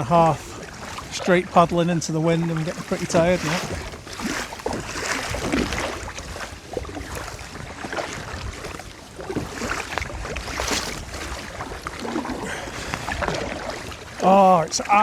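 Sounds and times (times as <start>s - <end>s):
paddle strokes splashing: 0.0s - 15.0s
water slapping boat hull: 0.0s - 15.0s
wind on microphone: 0.0s - 15.0s.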